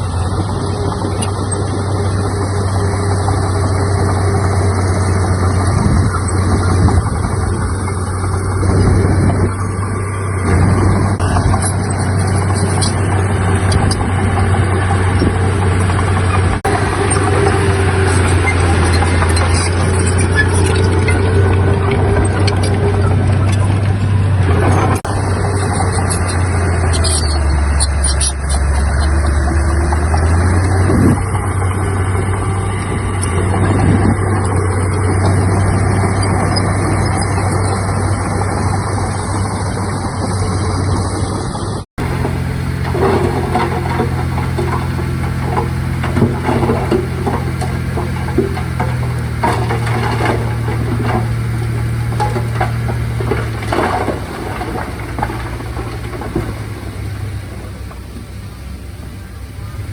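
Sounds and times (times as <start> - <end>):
diesel engines of heavy machinery: 0.0 - 59.9.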